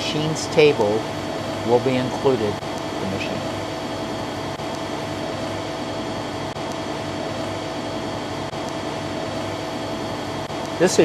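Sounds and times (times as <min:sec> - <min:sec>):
machinery hum and whine: 0:00.0 - 0:11.0.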